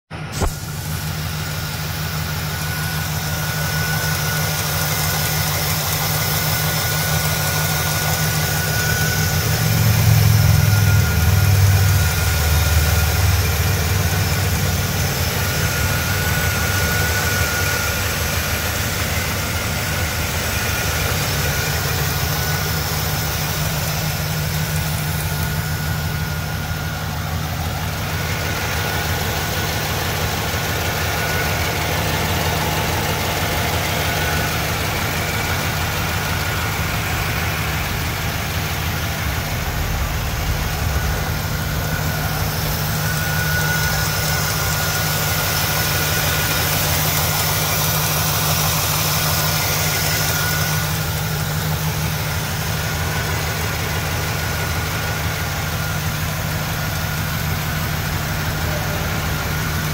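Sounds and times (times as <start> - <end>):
car engine idling: 0.1 - 59.9.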